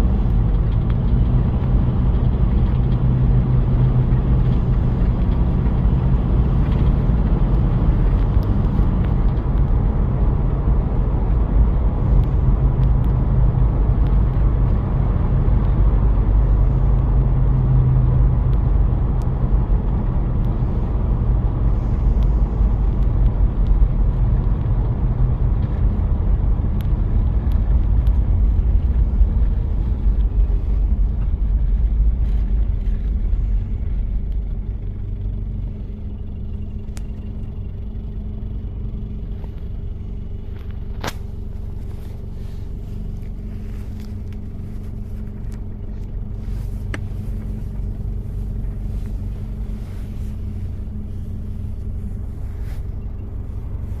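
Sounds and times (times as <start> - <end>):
diesel engine running: 0.0 - 54.0
road noise: 0.0 - 54.0.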